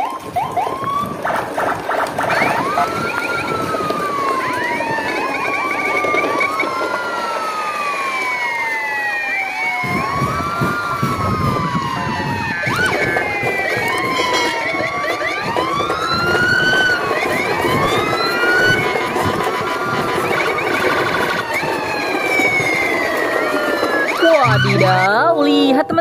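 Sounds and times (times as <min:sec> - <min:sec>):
police sirens wailing: 0:00.0 - 0:26.0.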